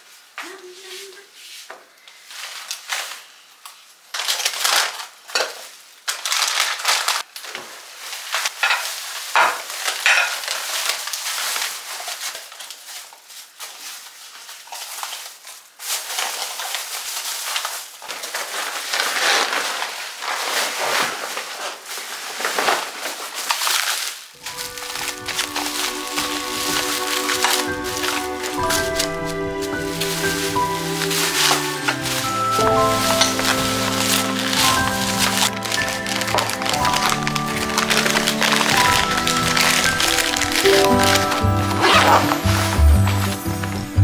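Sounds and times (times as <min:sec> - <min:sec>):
bubble wrap crinkling: 0:00.0 - 0:44.0.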